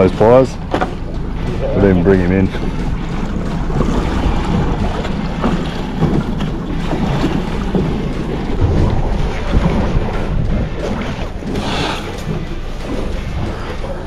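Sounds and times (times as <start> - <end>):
sea waves: 0.0 - 14.0
wind buffeting microphone: 0.0 - 14.0.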